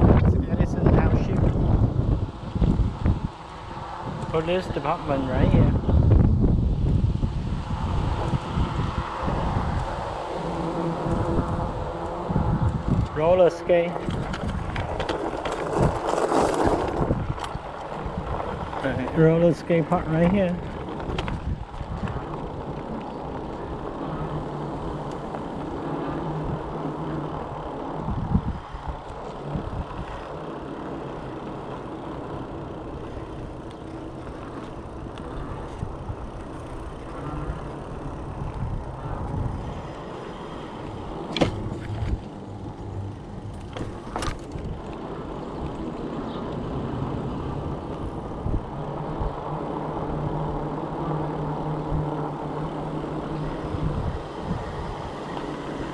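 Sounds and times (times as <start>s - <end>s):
low motor hum: 0.0s - 55.9s
tyre and wind noise: 0.0s - 55.9s.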